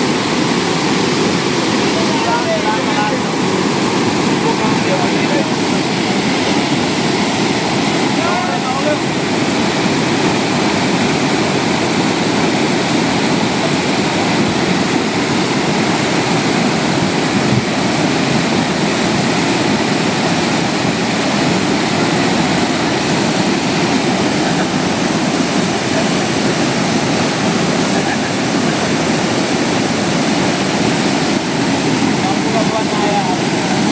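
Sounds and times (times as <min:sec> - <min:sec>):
floodwater rushing: 0:00.0 - 0:33.9.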